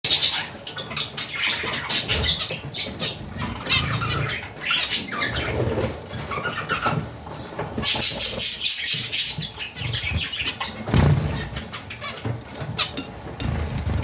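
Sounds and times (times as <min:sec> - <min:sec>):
budgerigars chattering: 0:00.1 - 0:07.1, 0:07.8 - 0:14.0.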